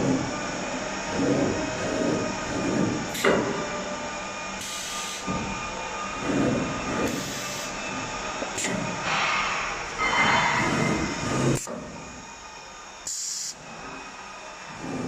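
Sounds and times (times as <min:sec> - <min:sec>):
machine mechanical noise: 0:00.0 - 0:15.0.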